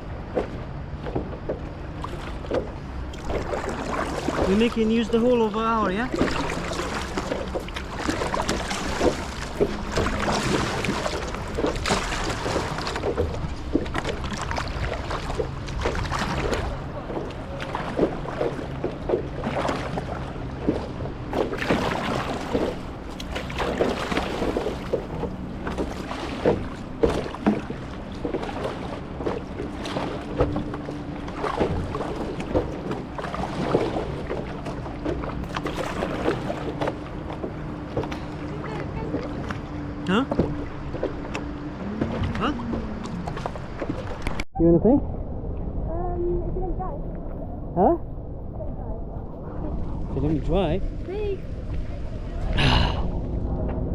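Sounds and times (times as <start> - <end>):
paddles splashing in water: 0.0 - 45.0.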